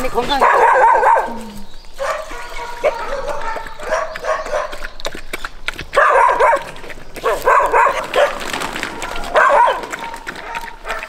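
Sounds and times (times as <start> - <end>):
dogs barking: 0.0 - 5.0, 5.9 - 11.0.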